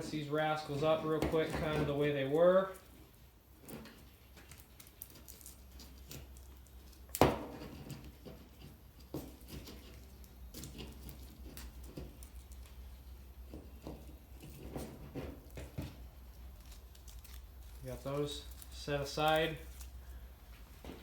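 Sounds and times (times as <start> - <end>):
tape wrapping clicks and rustles: 3.6 - 21.0.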